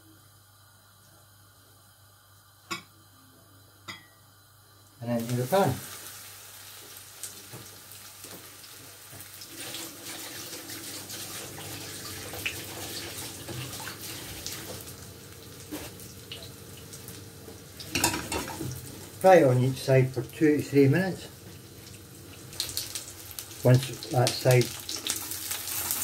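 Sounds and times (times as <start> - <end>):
chicken sizzling in hot oil: 5.0 - 26.0.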